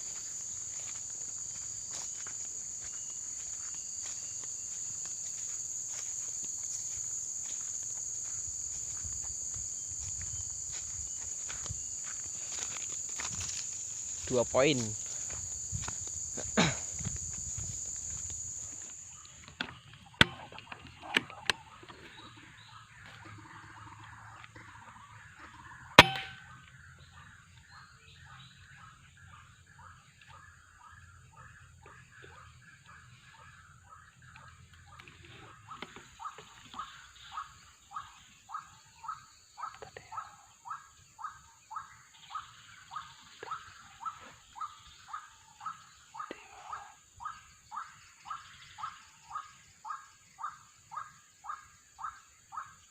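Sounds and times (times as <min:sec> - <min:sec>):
bird calling: 0:00.0 - 0:52.9
insects droning: 0:00.0 - 0:52.9.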